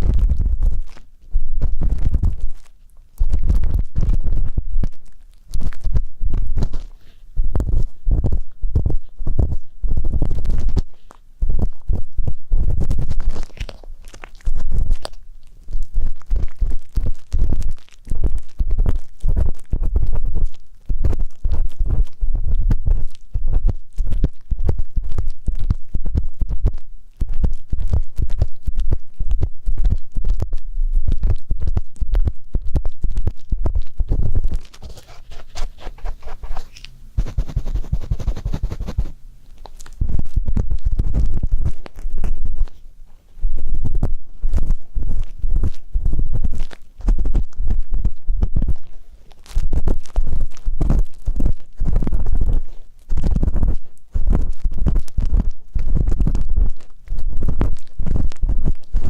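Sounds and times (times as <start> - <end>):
ear pick scratching on microphone: 0.0 - 39.2, 39.9 - 42.8, 43.4 - 59.0.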